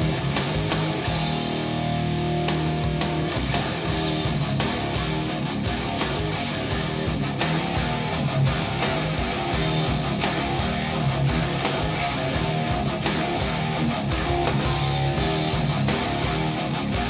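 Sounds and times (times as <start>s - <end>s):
rock music through speakers: 0.0s - 17.0s.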